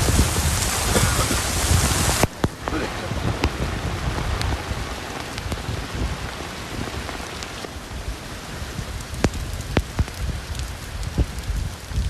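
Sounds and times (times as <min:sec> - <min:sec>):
heavy rain falling: 0:00.0 - 0:12.0
raindrops tapping close by: 0:00.0 - 0:12.0.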